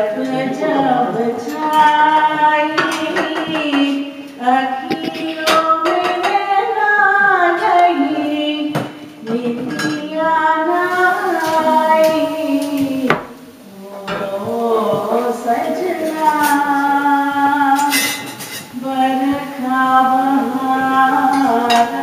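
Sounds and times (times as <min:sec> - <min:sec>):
woman singing: 0:00.0 - 0:22.0.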